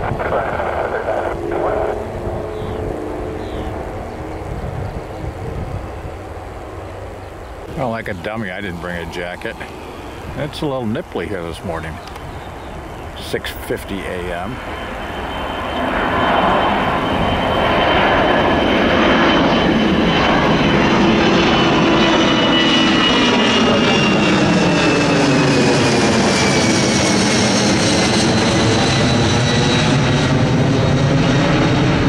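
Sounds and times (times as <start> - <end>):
high jet engine whine: 0.0 - 32.0
jet airliner climbing overhead: 0.0 - 32.0.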